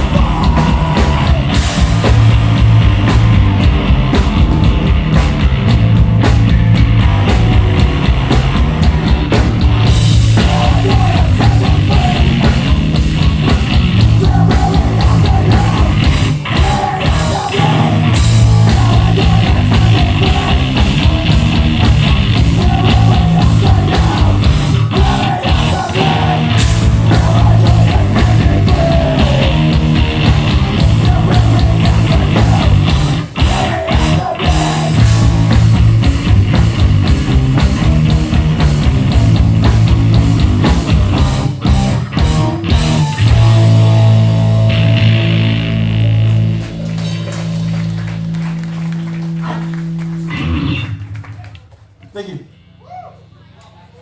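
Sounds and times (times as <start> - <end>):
fast drums: 0.0 - 50.6
distorted electric guitars: 0.0 - 51.3
punk band playing live: 0.0 - 51.4
bass guitar: 0.0 - 54.0.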